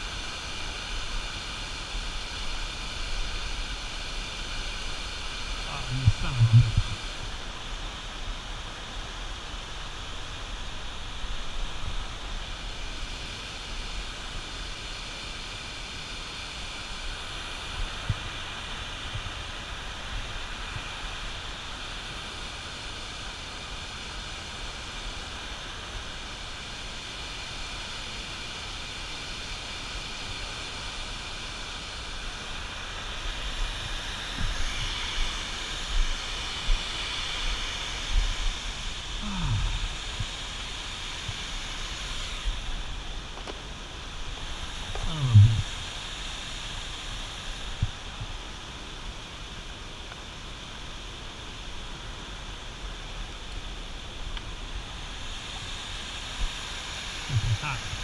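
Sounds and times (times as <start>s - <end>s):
white water rushing: 0.0s - 58.0s.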